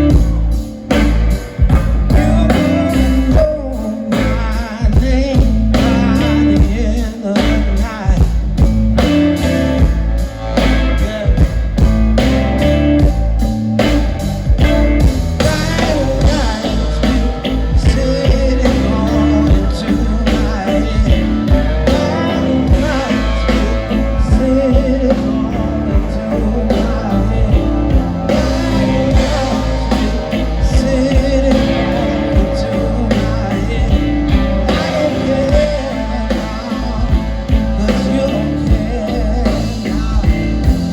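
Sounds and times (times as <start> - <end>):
drum beat: 0.0 - 40.9
electric guitar: 0.0 - 40.9
man singing: 0.0 - 40.9.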